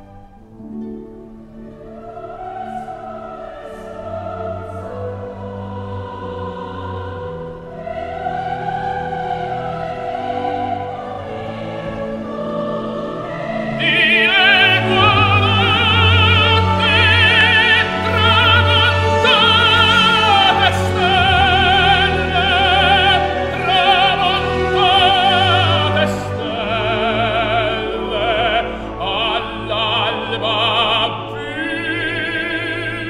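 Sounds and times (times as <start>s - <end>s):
operatic orchestral music: 0.0s - 33.0s.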